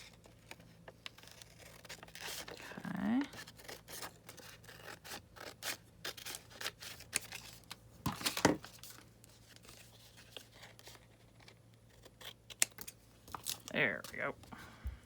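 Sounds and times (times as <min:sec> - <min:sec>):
paper crinkling and rustling: 0:00.0 - 0:14.4.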